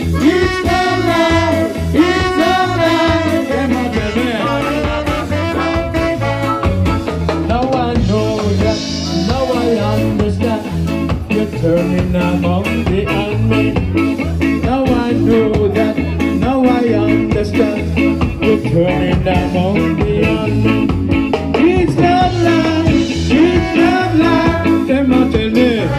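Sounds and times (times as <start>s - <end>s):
horn section: 0.0s - 25.9s
live ska band: 0.0s - 25.9s.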